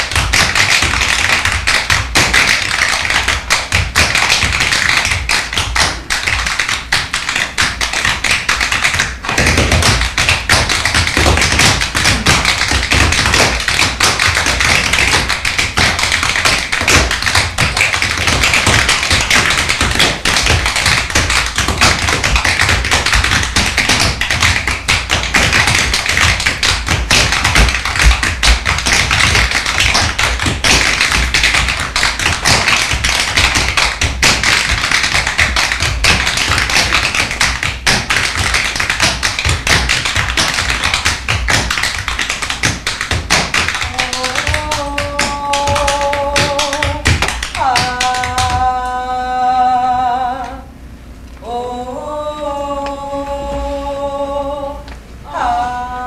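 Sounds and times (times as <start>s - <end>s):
tap shoes clicking on stage floor: 0.0s - 48.7s.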